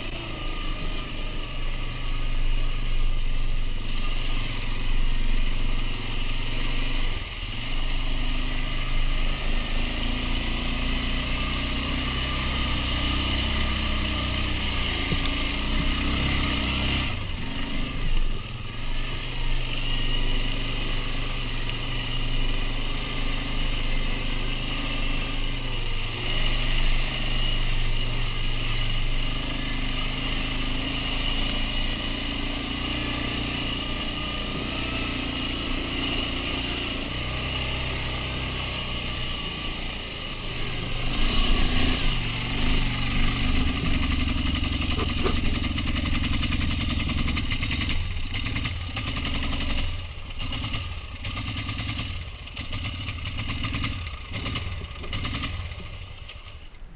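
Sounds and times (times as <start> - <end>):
quad bike engine revving: 0.0 - 56.8.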